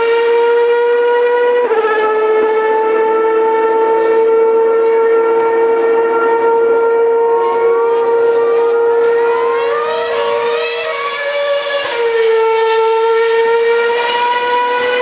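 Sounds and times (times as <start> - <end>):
racing car engines screaming: 0.0 - 15.0.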